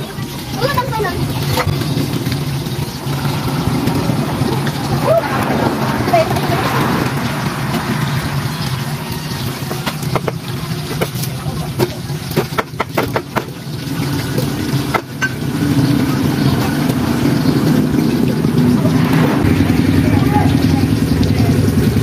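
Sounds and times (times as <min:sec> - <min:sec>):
motor engine running: 0:00.0 - 0:22.0.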